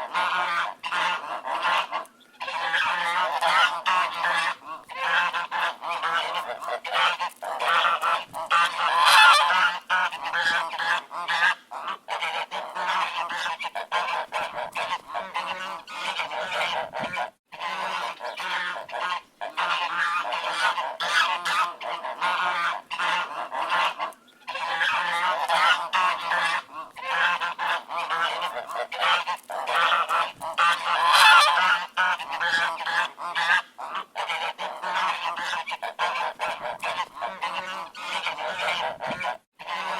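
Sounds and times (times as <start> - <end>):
flock of ducks quacking: 0.0 - 39.9.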